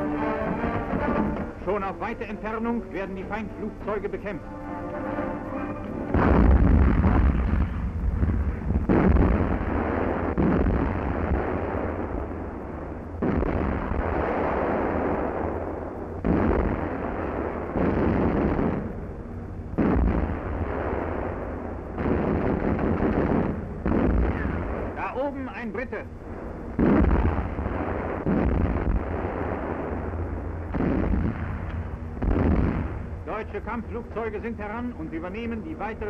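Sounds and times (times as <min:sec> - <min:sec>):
anti-aircraft guns firing: 0:00.0 - 0:04.3, 0:05.0 - 0:36.0.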